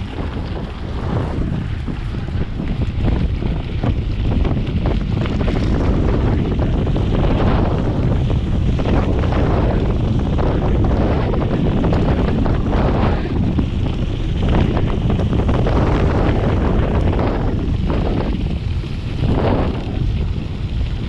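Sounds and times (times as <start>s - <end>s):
bike clicks and rattles: 0.0s - 21.0s
tyres rumbling on dirt: 0.0s - 21.0s
wind buffeting microphone: 0.0s - 21.0s.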